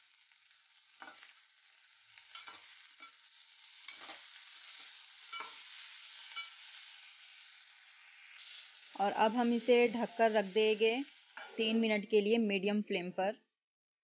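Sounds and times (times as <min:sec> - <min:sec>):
vegetables sizzling in oil: 0:00.0 - 0:13.2.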